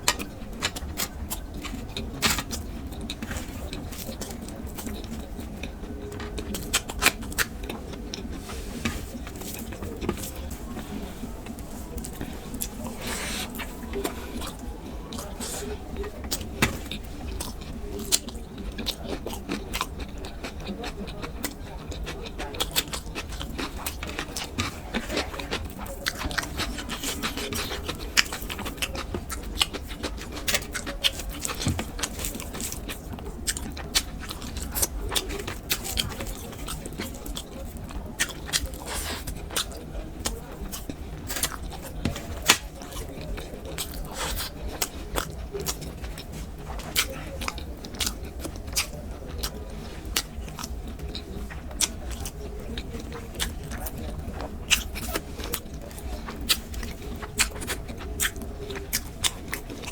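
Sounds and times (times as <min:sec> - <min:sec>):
person chewing with wet smacks: 0:00.0 - 0:59.9.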